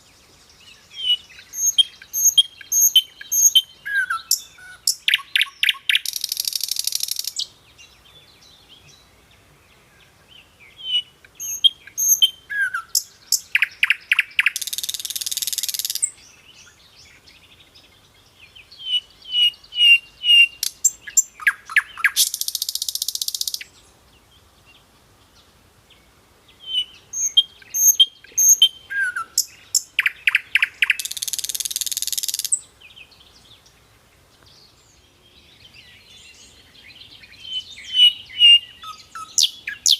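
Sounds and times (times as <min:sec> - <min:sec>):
bird singing whistled notes: 0:00.1 - 0:09.4, 0:10.0 - 0:24.8, 0:25.4 - 0:33.8, 0:34.4 - 0:39.9.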